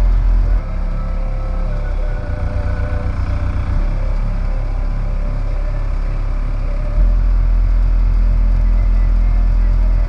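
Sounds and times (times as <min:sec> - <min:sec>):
deep bass from subwoofers: 0:00.0 - 0:10.0.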